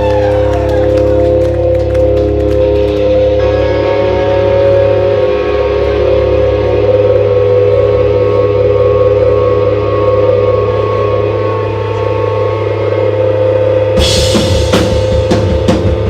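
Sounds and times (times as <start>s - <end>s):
sustained electric guitar and bass drone: 0.0s - 16.0s.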